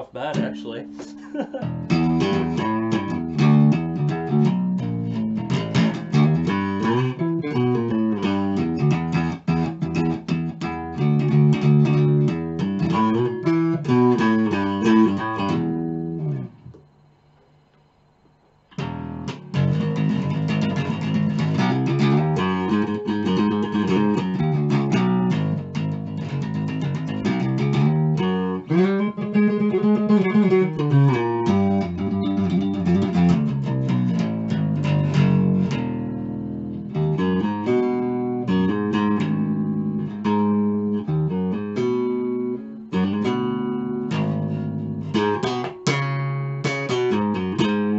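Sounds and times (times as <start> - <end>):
bass guitar played fingerstyle: 0.0 - 17.0, 18.6 - 47.9.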